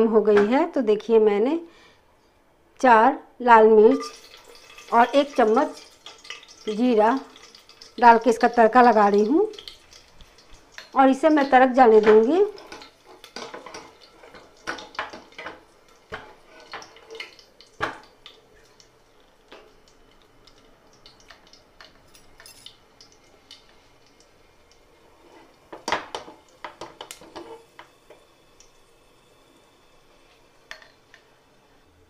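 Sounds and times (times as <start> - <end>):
spices popping in hot oil: 3.8 - 31.9.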